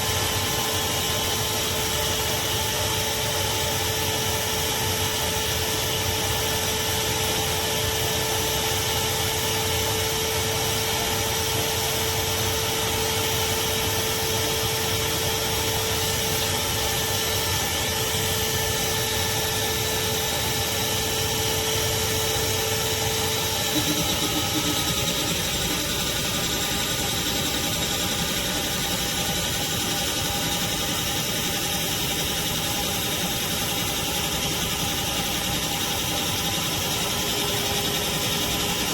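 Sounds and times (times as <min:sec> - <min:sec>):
shop vacuum running: 0:00.0 - 0:38.9.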